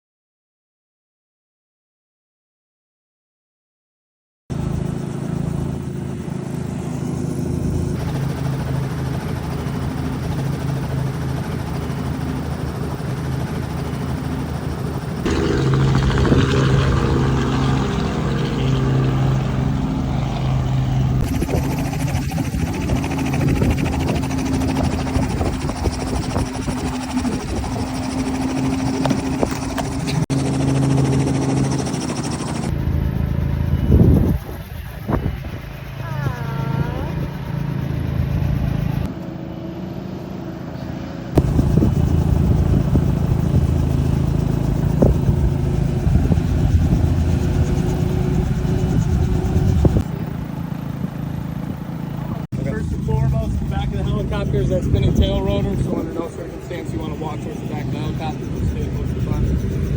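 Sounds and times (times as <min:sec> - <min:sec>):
helicopter engine and rotor: 0:04.5 - 0:59.9.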